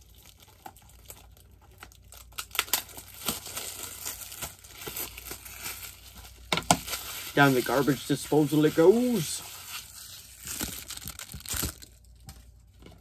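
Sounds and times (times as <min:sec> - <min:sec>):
plastic shrink wrap crinkling: 0:00.0 - 0:13.0.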